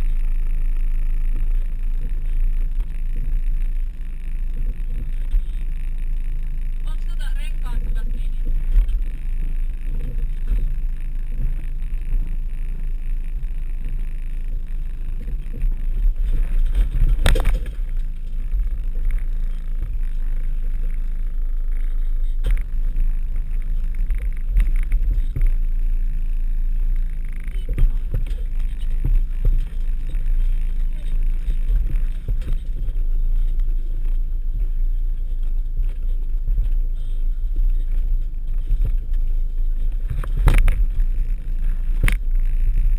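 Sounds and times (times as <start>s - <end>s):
engine running low from inside cab: 0.0s - 42.9s.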